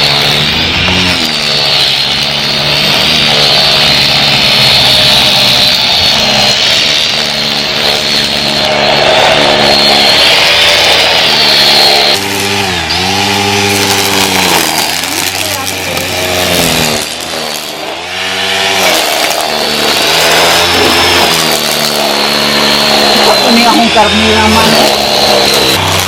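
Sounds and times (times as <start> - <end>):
string trimmer whining: 0.0 - 26.0.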